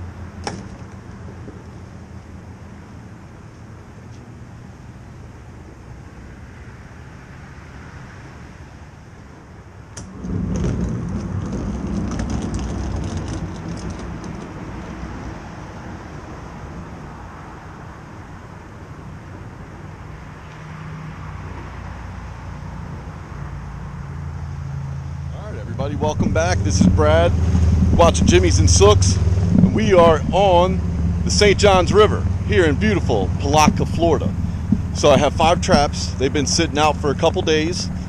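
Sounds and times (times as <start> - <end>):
engine humming: 0.0 - 7.6, 8.6 - 38.0.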